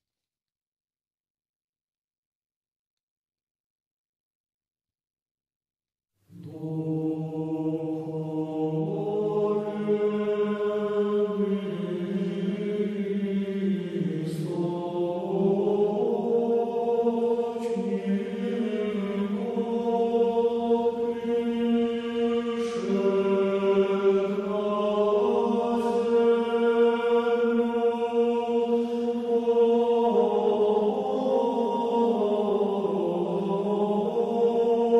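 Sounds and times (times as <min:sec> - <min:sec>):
choir chanting: 0:06.3 - 0:34.9.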